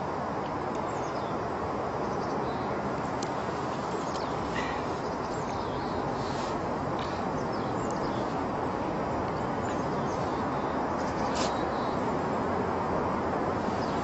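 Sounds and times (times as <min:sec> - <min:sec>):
steady rushing outdoor noise: 0:00.0 - 0:14.0.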